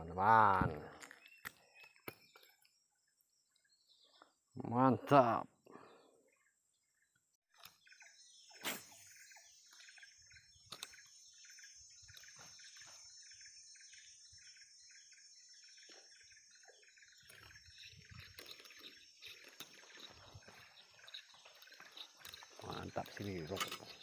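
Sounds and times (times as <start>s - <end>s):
bird or insect chirps: 0.0s - 24.0s.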